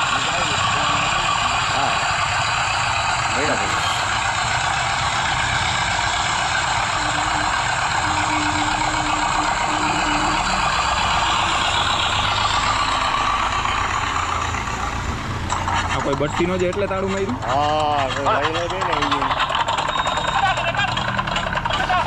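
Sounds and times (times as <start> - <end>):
small diesel engine running: 0.0 - 22.0.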